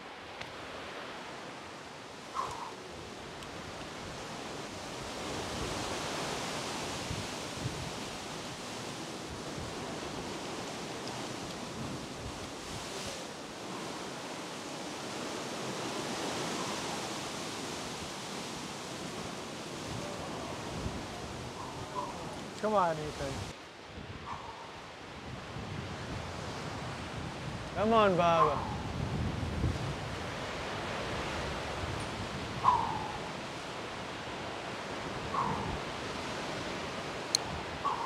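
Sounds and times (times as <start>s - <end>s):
ocean waves breaking: 0.0s - 28.6s, 30.0s - 38.0s.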